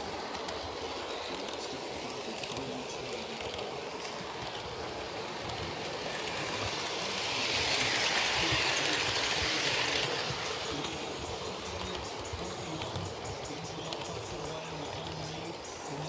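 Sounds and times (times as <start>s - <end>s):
model train rolling whir: 0.0s - 16.0s.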